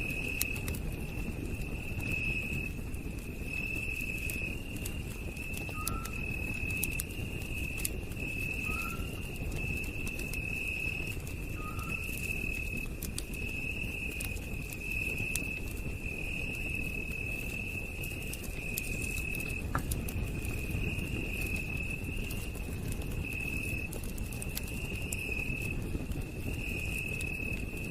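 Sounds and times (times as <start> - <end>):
campfire rumbling and crackling: 0.0 - 27.9
night insects trilling: 0.0 - 27.9.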